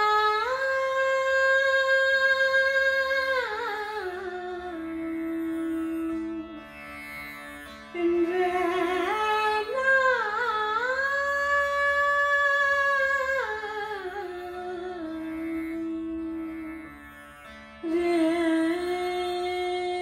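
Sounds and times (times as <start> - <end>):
woman singing classical vocal: 0.0 - 6.7, 7.9 - 17.0, 17.8 - 20.0
plucked tanpura drone: 0.0 - 20.0.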